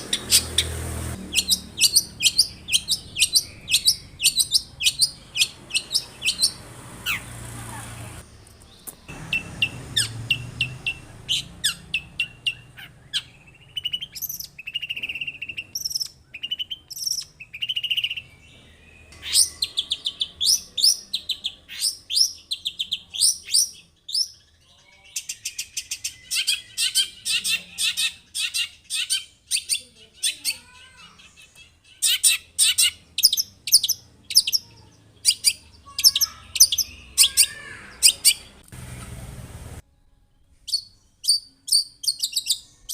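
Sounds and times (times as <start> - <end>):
bird singing high trills: 0.0 - 7.3, 8.7 - 29.9, 31.5 - 38.6.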